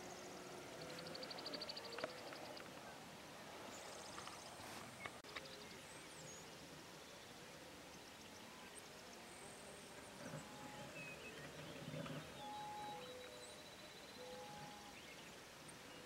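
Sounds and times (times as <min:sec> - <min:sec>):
songbird trills and chirps: 0:00.0 - 0:02.9, 0:03.7 - 0:16.0
low steady hiss: 0:00.0 - 0:16.0.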